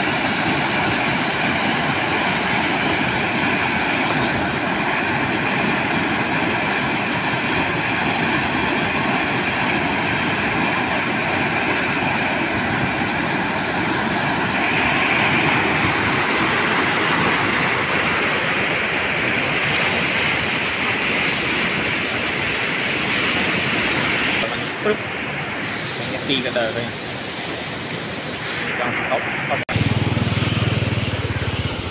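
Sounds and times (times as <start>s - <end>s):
floodwater rushing: 0.0s - 31.9s.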